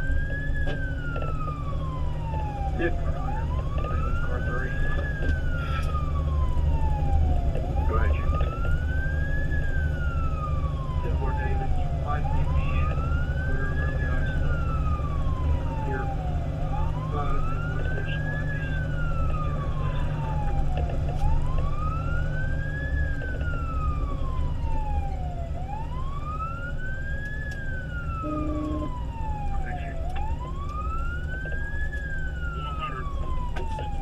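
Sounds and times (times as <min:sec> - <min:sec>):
fire engine siren wailing: 0:00.0 - 0:34.0
road noise: 0:00.0 - 0:34.0
truck engine drone: 0:00.0 - 0:34.0.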